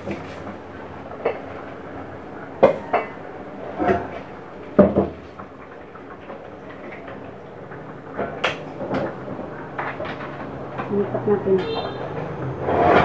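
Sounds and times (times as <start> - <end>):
pots and pans clattering: 0.0 - 13.0.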